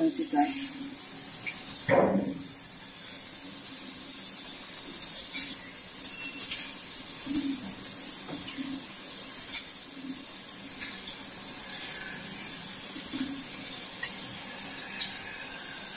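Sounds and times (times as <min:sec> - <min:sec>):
onions sizzling in hot oil: 0:00.0 - 0:15.9.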